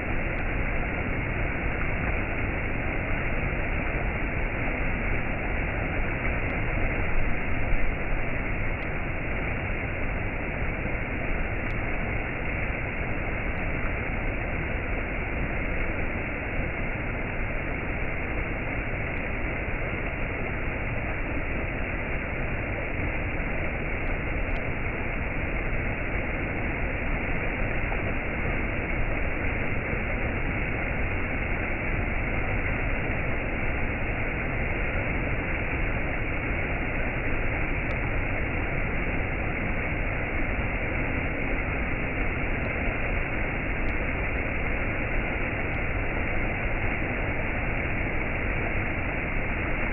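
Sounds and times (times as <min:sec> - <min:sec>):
steady rushing noise: 0:00.0 - 0:49.9.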